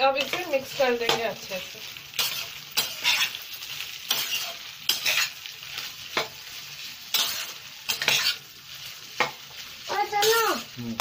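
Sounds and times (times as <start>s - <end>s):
spoon scraping a frying pan: 0.0s - 10.5s
rice sizzling: 0.0s - 11.0s.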